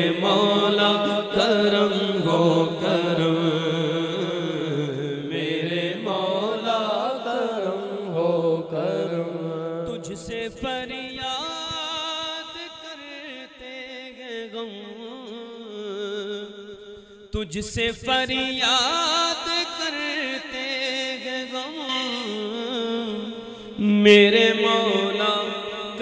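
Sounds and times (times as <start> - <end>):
man singing a devotional hymn: 0.0 - 26.0.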